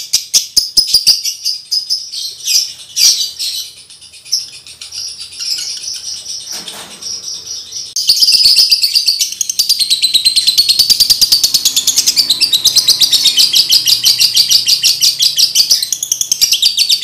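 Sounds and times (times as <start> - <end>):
lovebird chattering chirps: 0.0 - 17.0.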